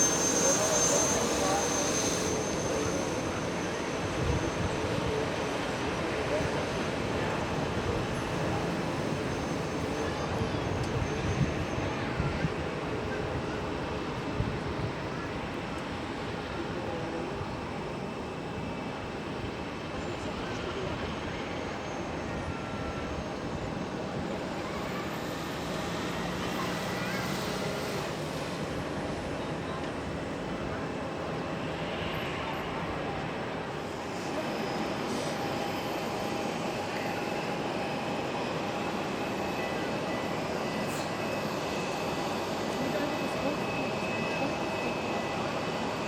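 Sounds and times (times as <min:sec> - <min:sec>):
aircraft noise rush: 0:00.0 - 0:46.0
airport ambience rumble: 0:00.0 - 0:46.0.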